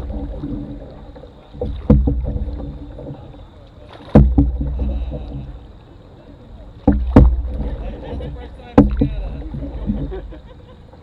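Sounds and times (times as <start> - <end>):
paddle knocking against hull: 0.0 - 5.8, 6.8 - 10.7
paddle pulling through water: 0.0 - 11.0.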